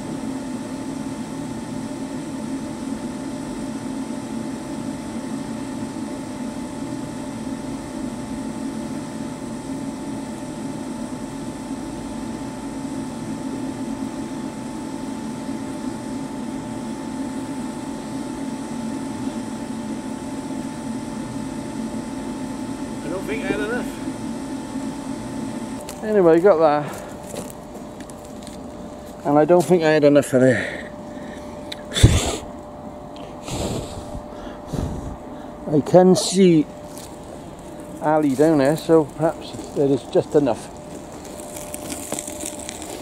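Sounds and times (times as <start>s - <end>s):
blower hum: 0.0s - 43.0s
furnace burner rushing: 0.0s - 43.0s.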